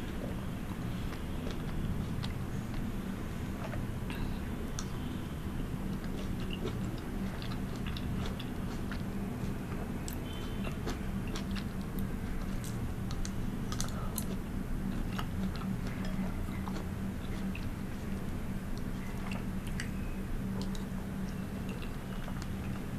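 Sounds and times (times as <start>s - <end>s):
wet chewing: 0.0s - 5.2s, 5.8s - 22.9s
steady low hum: 0.0s - 22.9s.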